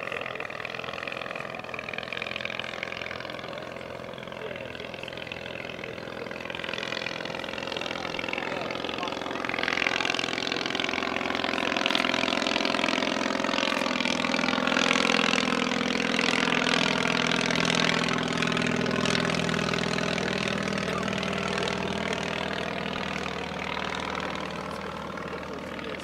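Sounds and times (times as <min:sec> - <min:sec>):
propeller aircraft flying past: 0:00.0 - 0:26.0.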